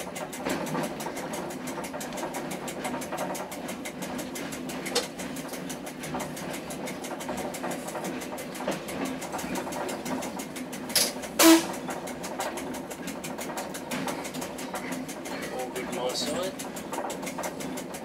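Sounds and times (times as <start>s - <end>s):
train engine running: 0.0s - 18.0s.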